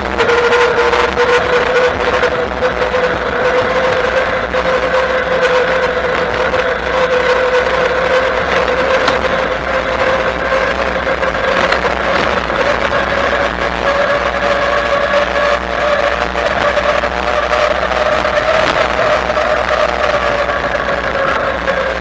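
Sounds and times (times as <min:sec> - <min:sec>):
e-bike motor whining: 0:00.0 - 0:22.0
wind and tyre noise: 0:00.0 - 0:22.0.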